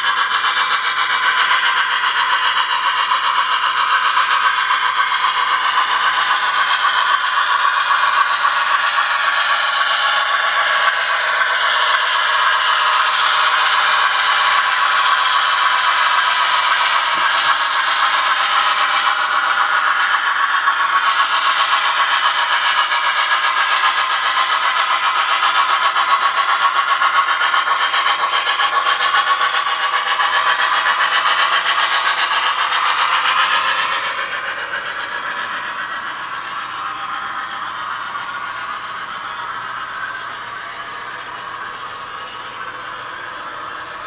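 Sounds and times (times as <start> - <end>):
model train wheels clattering on rail: 0.0 - 44.0.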